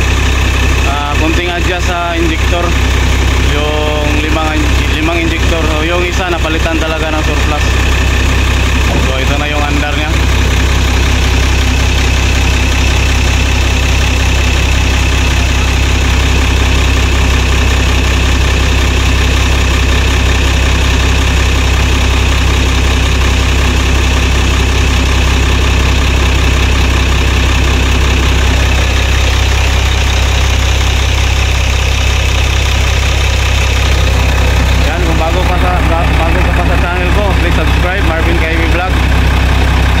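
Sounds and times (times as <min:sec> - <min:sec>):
truck diesel engine idling: 0:00.0 - 0:40.0.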